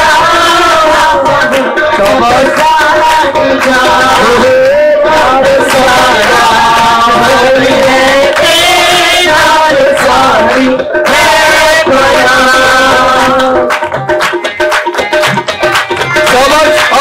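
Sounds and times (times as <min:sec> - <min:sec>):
worship song sung over music: 0:00.0 - 0:14.2
sharp drum strokes: 0:00.0 - 0:17.0.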